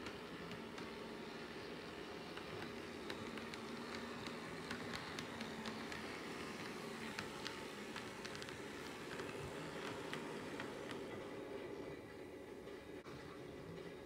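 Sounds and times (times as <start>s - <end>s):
light clicks of train on track: 0.0s - 13.0s
model train motor hum: 0.0s - 13.0s.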